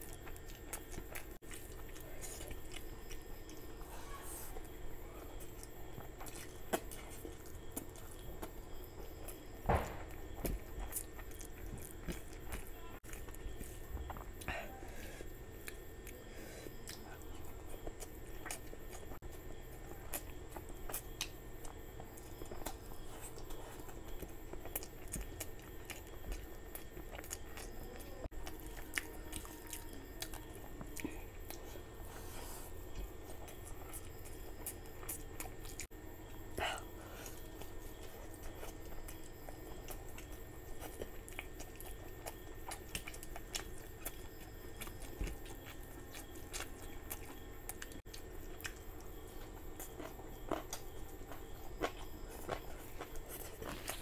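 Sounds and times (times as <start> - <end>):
close chewing with mouth clicks: 0.0 - 54.0.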